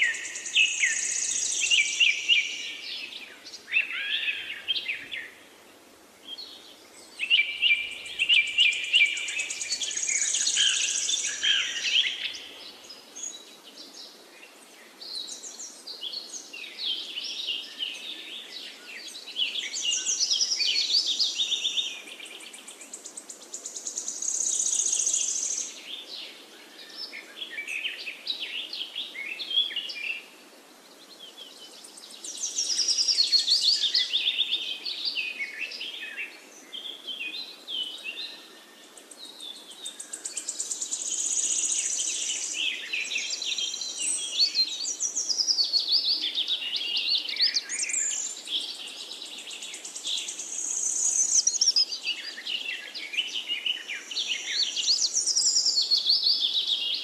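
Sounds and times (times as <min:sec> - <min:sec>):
small birds chirping and trilling: 0:00.0 - 0:05.4, 0:06.2 - 0:57.0.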